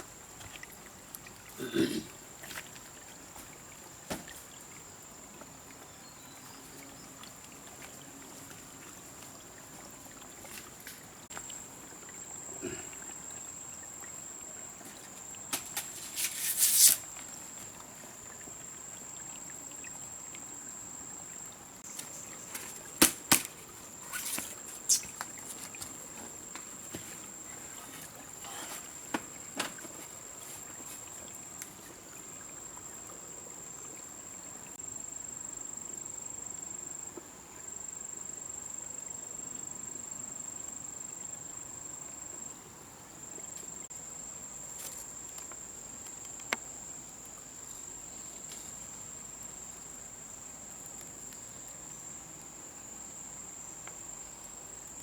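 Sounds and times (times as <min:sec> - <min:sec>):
faint forest background: 0:00.0 - 0:55.0.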